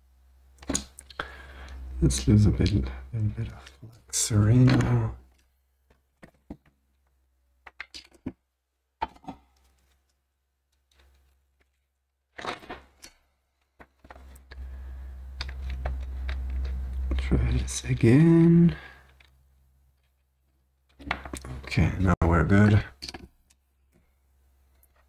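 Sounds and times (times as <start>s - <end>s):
low hum with hiss: 0.0s - 25.0s.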